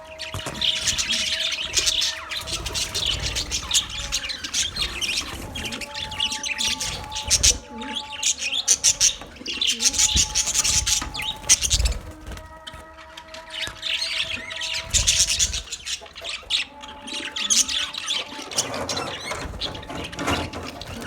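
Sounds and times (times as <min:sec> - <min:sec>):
budgerigars chirping and chattering: 0:00.0 - 0:21.0.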